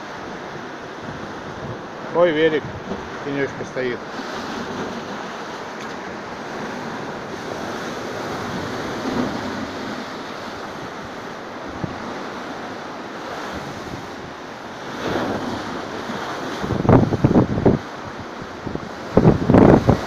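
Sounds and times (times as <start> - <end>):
surf from stormy sea: 0.0 - 20.0
wind buffeting microphone: 0.0 - 20.0.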